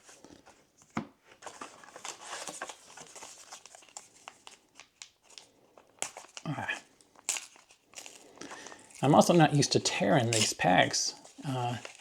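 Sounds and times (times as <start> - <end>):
wrapper crinkling and tearing: 1.4 - 12.0.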